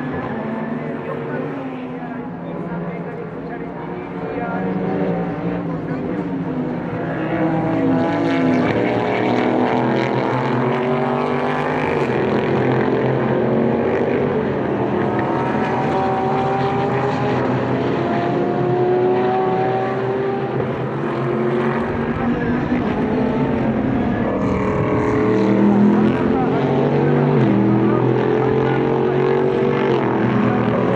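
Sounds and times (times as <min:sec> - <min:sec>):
race car engines revving: 0:00.0 - 0:30.9.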